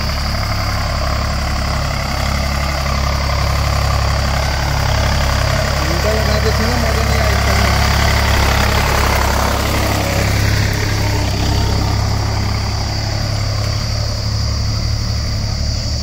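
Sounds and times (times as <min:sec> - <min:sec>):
tractor diesel engine hum: 0:00.0 - 0:16.0.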